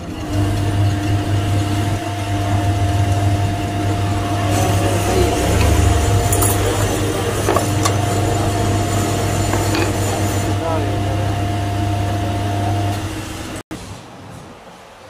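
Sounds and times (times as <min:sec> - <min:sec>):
low machine hum: 0:00.0 - 0:13.6.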